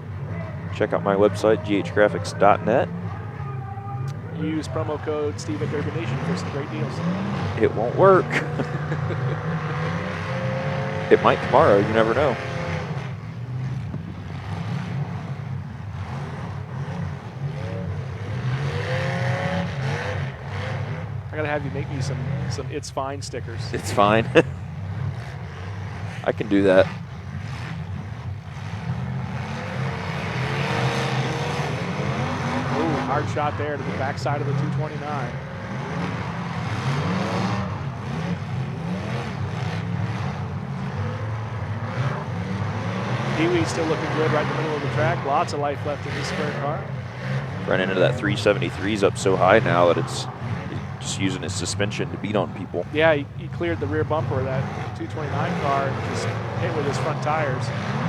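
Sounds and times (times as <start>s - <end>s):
car engines rumbling: 0.0s - 58.0s
engine revving: 0.0s - 58.0s.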